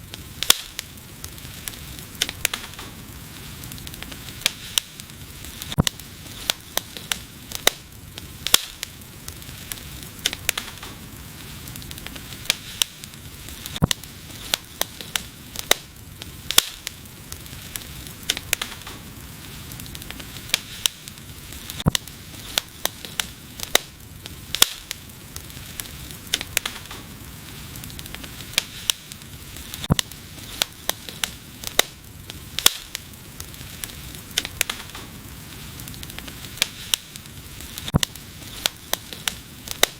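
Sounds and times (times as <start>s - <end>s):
steady hiss: 0.0s - 39.9s
wood fire crackling: 0.0s - 39.9s.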